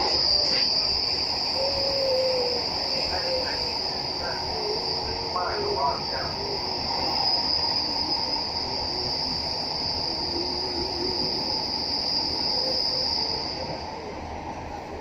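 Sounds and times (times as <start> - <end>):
high-pitched insect-like trill: 0.0 - 13.9
train running rumble: 0.0 - 15.0.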